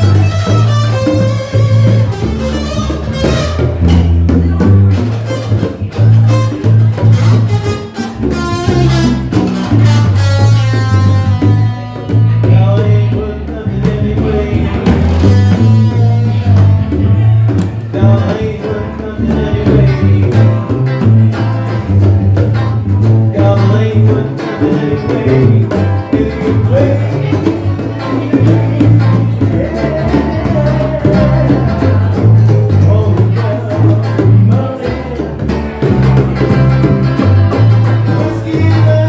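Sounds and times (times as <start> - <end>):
live band playing: 0.0 - 39.0
person singing: 5.3 - 21.1, 23.2 - 39.0.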